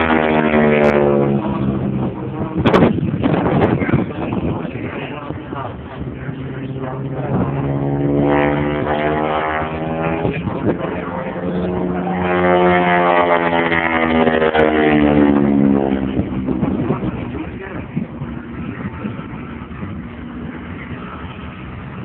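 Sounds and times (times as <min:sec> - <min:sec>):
aircraft piston engine drone: 0:00.0 - 0:22.0.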